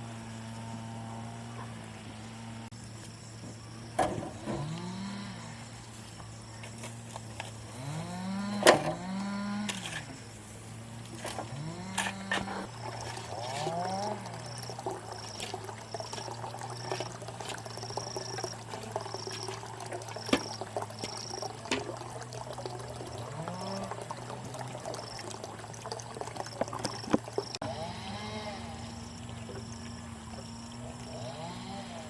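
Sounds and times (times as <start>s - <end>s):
water pouring and trickling: 2.8s - 27.6s, 28.9s - 31.3s.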